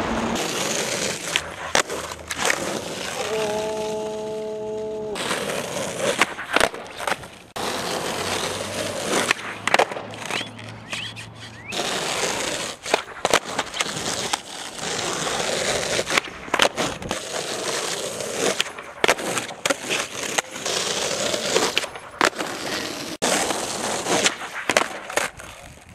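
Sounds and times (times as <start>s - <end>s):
skateboard clacks: 0.0s - 4.2s, 5.1s - 25.9s
skateboard wheels rolling on asphalt: 0.0s - 25.9s.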